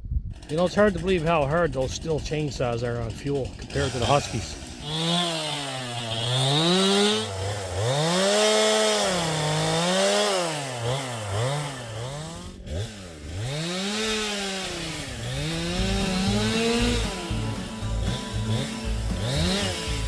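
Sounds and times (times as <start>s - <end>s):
chainsaw cutting logs: 0.2s - 20.0s.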